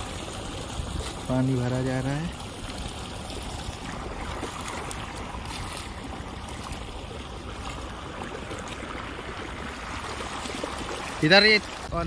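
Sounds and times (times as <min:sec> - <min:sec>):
water flowing across field: 0:00.0 - 0:12.0.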